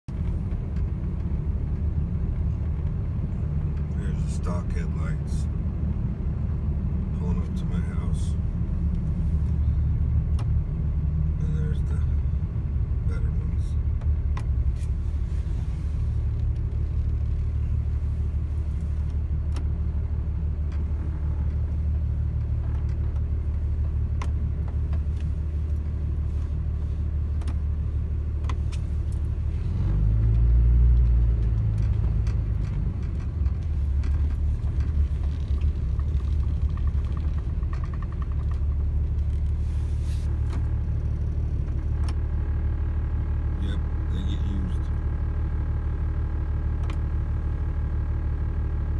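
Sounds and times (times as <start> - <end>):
vehicle engine and road rumble: 0.0 - 48.9.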